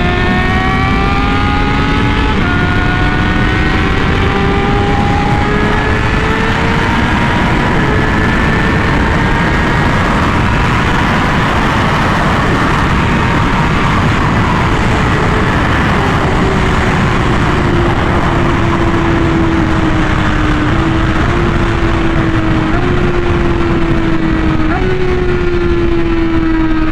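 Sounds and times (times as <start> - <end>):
motorcycle engine running: 0.0 - 26.9
wind noise: 0.0 - 26.9.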